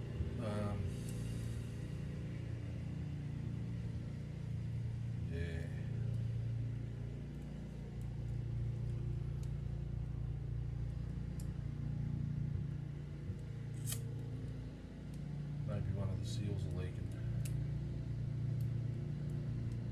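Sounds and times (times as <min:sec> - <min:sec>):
low mechanical hum: 0:00.0 - 0:19.9.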